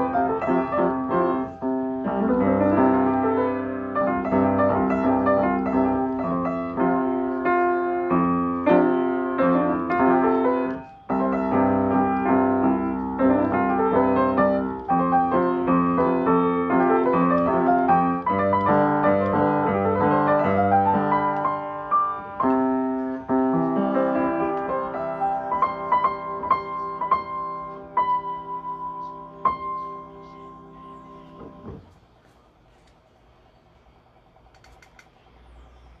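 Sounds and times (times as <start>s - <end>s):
solo piano music: 0.0s - 31.9s.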